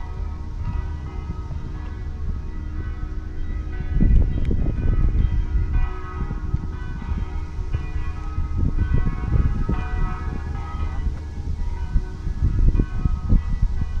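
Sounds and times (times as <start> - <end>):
bells ringing: 0.0 - 14.0
wind buffeting microphone: 0.0 - 14.0.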